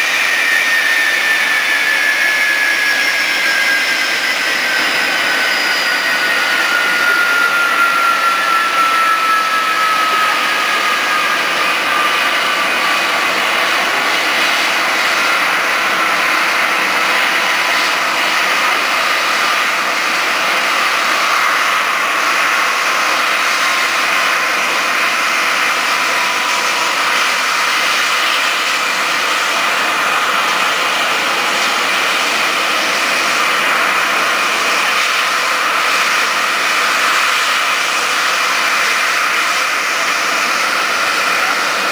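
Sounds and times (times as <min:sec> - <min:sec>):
falling engine whine: 0:00.0 - 0:41.9
jet engines rushing: 0:00.0 - 0:41.9.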